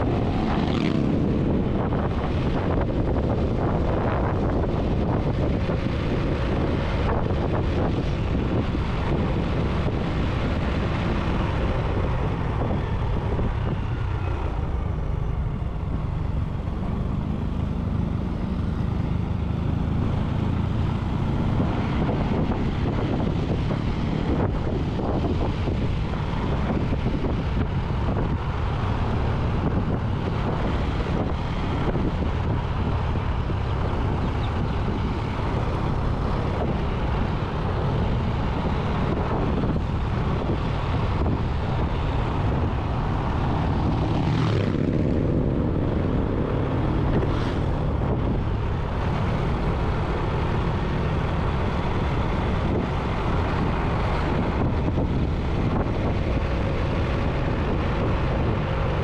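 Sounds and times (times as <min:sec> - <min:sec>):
vehicle and road noise: 0:00.0 - 0:59.0
wind rushing over microphone: 0:00.0 - 0:59.0.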